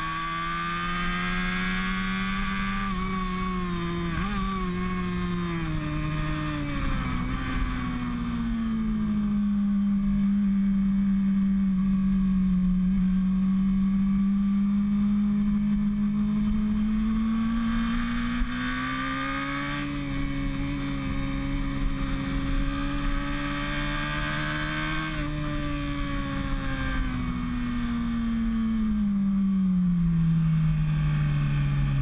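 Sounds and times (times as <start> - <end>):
motorcycle engine at high revs: 0.0 - 32.0.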